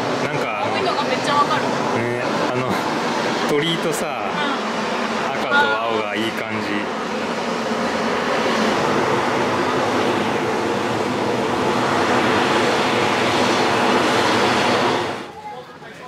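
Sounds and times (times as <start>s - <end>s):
steam hissing off hot spring: 0.0s - 16.0s.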